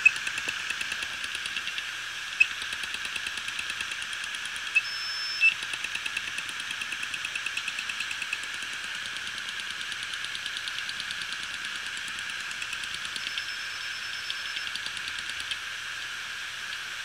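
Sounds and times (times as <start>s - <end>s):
hard drive head ticking: 0.0s - 15.7s
hard drive platter whirring: 0.0s - 17.0s.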